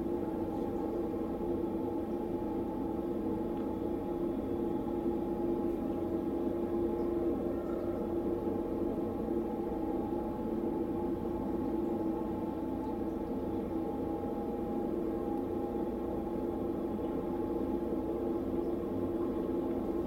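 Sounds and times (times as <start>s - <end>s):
machine hum with low rumble: 0.0s - 20.0s.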